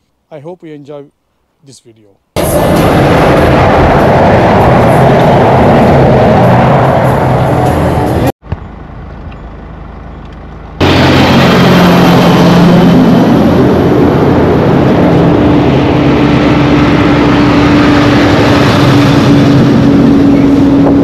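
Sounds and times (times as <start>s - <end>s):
heavy trucks passing: 2.4s - 21.0s.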